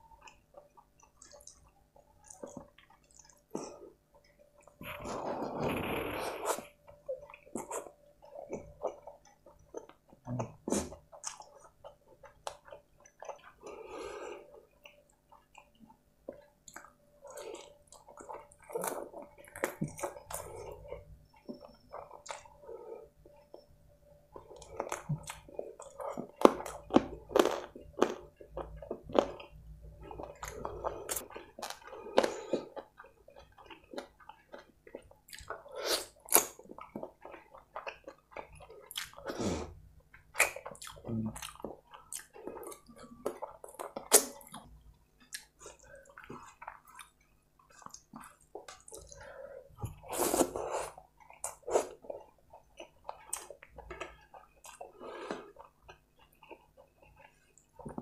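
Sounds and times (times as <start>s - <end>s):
close chewing: 0.1s - 23.6s, 24.4s - 58.0s.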